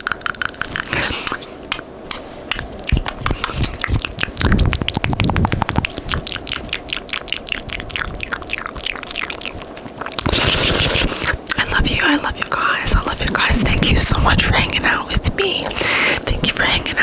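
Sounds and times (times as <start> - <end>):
wet tongue and lip clicks: 0.0 - 16.8.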